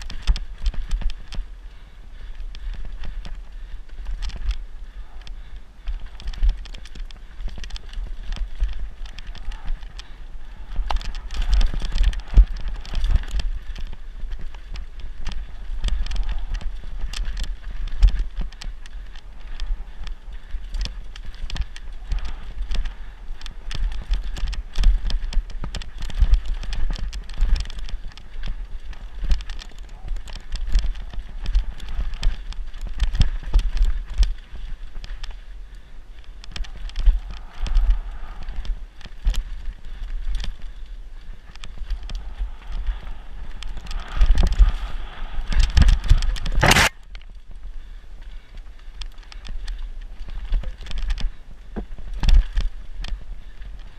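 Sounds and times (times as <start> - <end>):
bike rattling and knocking: 0.0 - 1.5, 2.2 - 35.5, 36.4 - 53.9
bike tyres on dirt: 0.0 - 53.9
wind rumble on microphone: 0.0 - 53.9.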